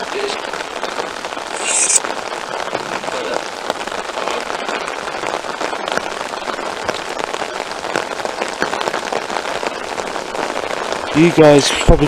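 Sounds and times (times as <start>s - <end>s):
heavy rain on an umbrella: 0.0s - 12.0s.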